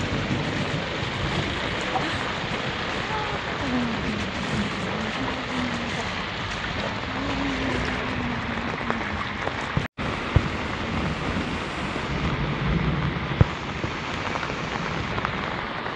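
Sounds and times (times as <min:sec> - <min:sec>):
rain falling: 0:00.0 - 0:15.9
runoff water flowing: 0:00.0 - 0:15.9.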